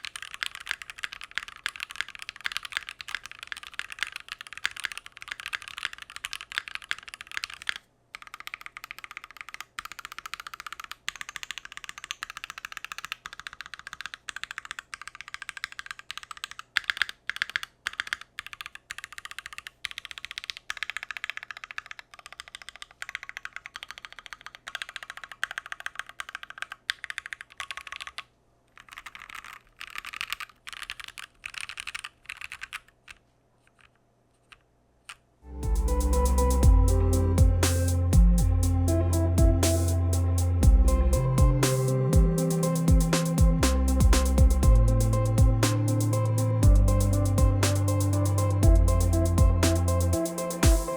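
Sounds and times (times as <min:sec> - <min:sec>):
mechanical keyboard typing: 0:00.0 - 0:33.2, 0:41.7 - 0:50.9.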